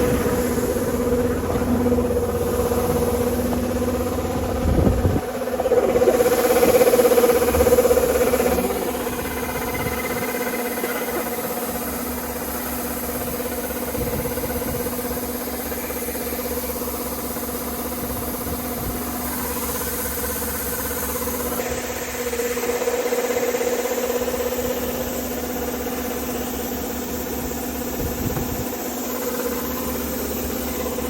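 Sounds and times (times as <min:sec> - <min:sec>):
harvester engine running: 0:00.0 - 0:31.0.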